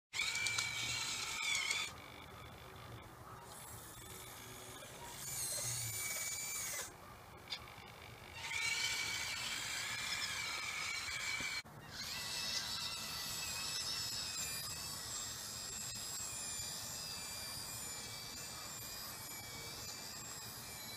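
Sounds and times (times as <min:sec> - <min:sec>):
small electric motors whining: 0:00.1 - 0:20.9.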